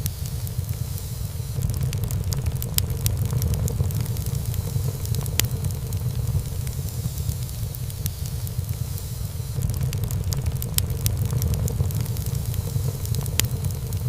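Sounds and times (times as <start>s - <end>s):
burning wood crackling and popping: 0.0s - 14.0s
fire flame rumbling: 0.0s - 14.0s.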